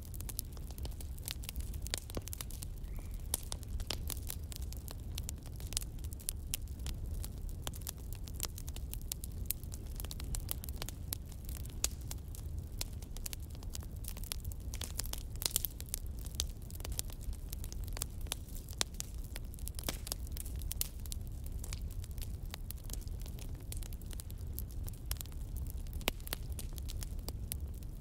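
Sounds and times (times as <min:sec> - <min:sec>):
wood fire pops and snaps: 0:00.0 - 0:28.0.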